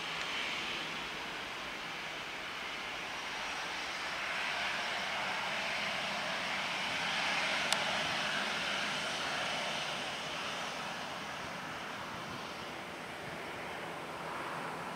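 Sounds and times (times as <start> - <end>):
jet engines rushing hiss: 0.0 - 14.9.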